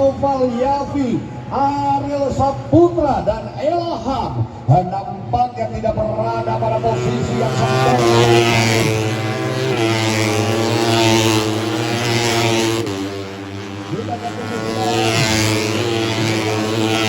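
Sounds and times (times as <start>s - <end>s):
motorcycles passing at high revs: 0.0s - 17.0s.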